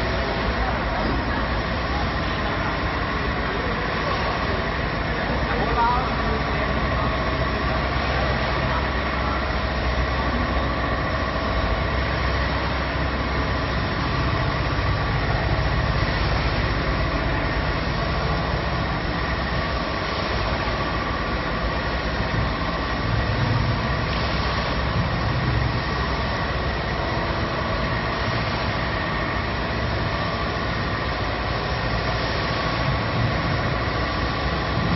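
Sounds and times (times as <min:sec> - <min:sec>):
production line machinery din: 0:00.0 - 0:34.9.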